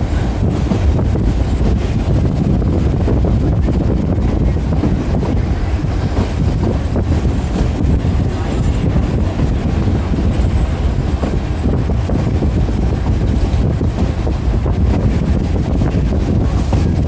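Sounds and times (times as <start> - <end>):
moving train rumble: 0.0 - 17.0
wind buffeting microphone: 0.0 - 17.0.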